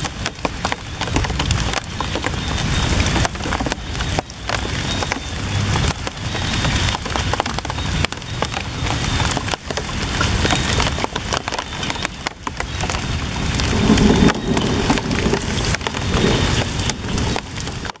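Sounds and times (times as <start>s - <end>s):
rain on leaves and puddle: 0.0s - 18.0s.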